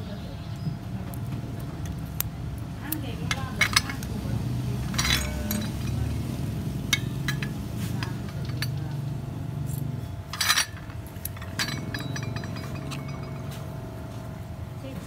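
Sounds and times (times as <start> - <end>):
small metal parts clinking: 1.1 - 14.4.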